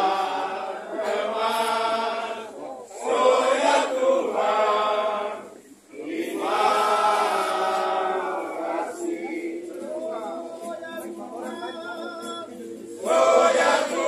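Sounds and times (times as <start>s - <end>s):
crowd chanting: 0.0s - 14.0s.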